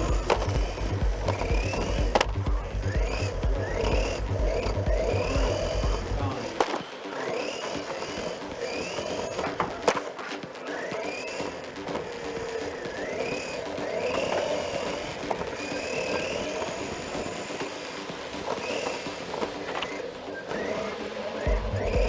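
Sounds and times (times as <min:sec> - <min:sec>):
chassis and tyres rattling: 0:00.0 - 0:22.0
electric motor whining: 0:00.0 - 0:22.0.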